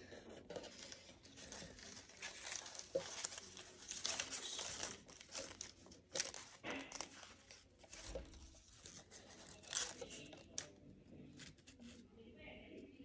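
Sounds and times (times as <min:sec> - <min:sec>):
paper rustling and crinkling: 0:00.0 - 0:12.1.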